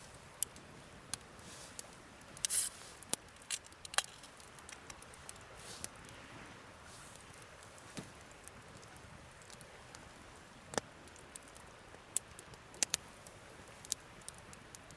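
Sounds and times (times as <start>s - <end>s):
wood campfire crackling: 0.0s - 14.9s.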